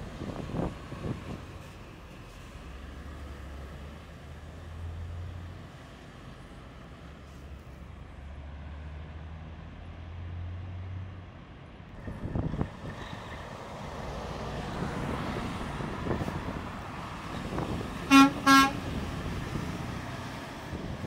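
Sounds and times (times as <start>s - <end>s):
truck engine hum: 0.0s - 11.1s, 11.7s - 21.0s.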